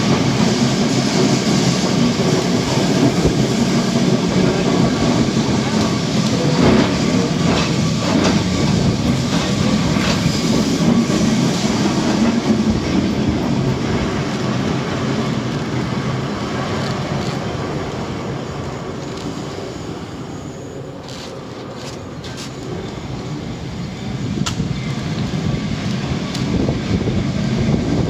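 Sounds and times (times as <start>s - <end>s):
tram wheels rattling on track: 0.0s - 28.0s.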